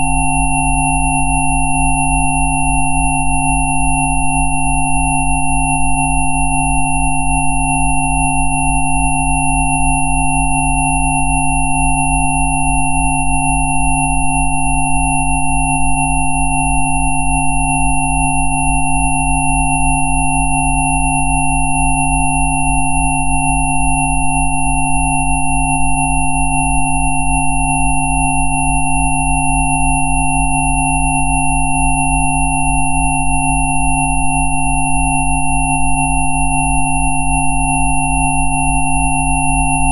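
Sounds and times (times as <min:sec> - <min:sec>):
electronic sine tones: 0:00.0 - 0:39.9.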